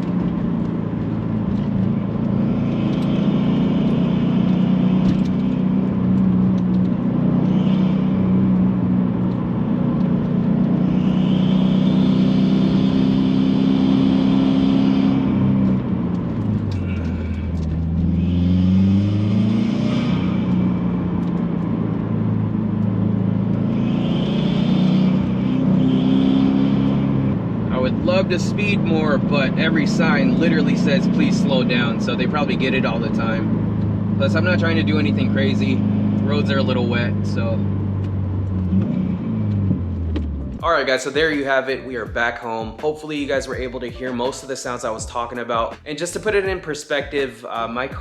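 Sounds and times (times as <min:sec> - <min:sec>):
turbocharged car engine revving: 0:00.0 - 0:43.8.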